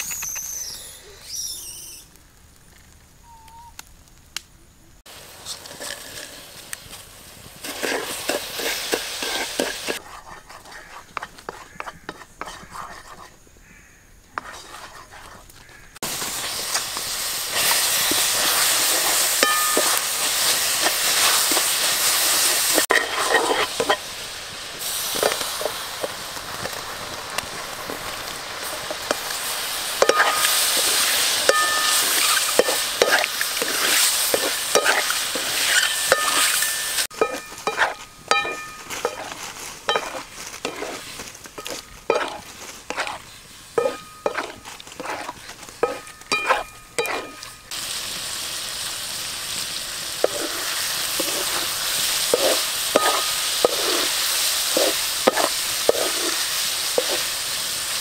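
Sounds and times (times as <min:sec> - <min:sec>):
sauce sizzling in a wok: 0:05.1 - 0:12.8, 0:16.0 - 0:58.0.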